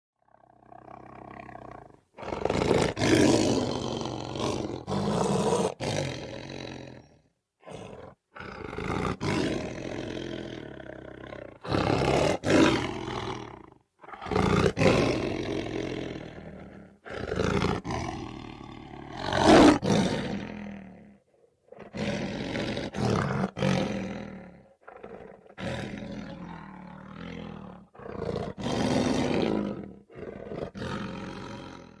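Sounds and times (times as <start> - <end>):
lion growling and roaring: 0.2 - 32.0.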